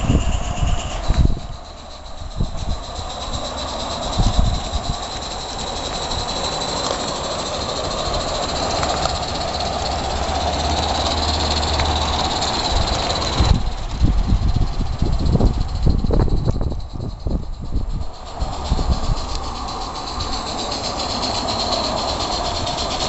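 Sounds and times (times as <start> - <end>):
exhaust and wheel beats: 0.0 - 23.0
steam locomotive hissing: 0.0 - 23.0.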